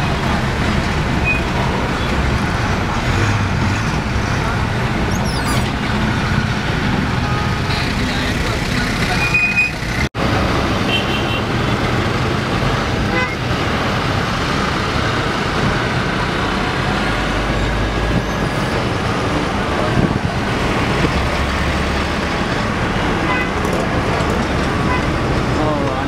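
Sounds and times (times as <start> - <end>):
traffic rumble from inside car: 0.0 - 10.9, 12.0 - 26.0.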